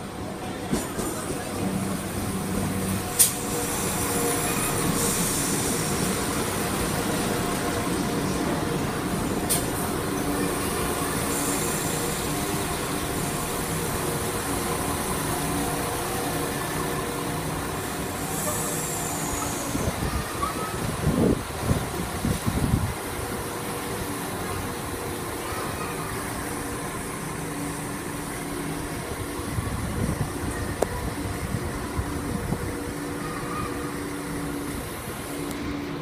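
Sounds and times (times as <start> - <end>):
diesel train hum: 0.0 - 36.0
train wheels rolling: 0.5 - 36.0.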